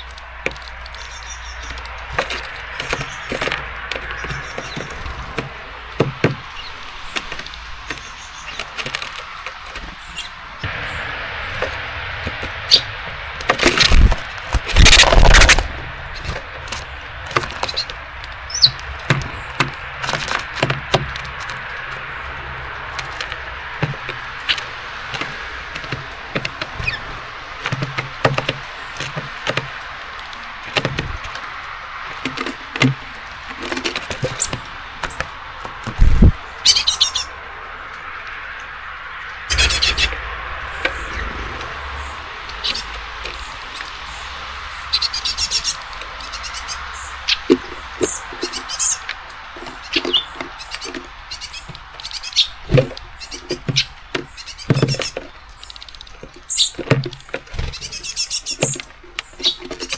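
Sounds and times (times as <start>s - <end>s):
rain hissing: 0.0s - 53.4s
birds chirping: 0.0s - 59.9s
birds tapping on a feeder: 0.0s - 59.9s.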